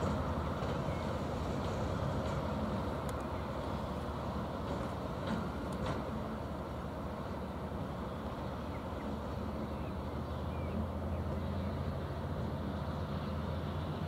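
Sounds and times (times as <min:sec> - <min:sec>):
low diesel locomotive rumble: 0:00.0 - 0:14.0.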